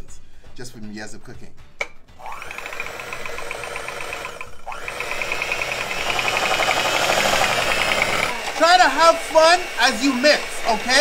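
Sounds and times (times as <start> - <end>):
electric mixer motor whining: 2.2 - 11.0.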